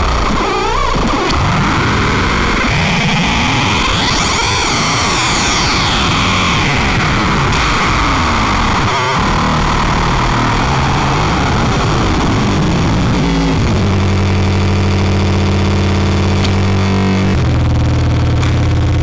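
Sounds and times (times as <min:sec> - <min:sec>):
dense noisy electronic texture: 0:00.0 - 0:19.0
steady low electronic drone: 0:00.0 - 0:19.0.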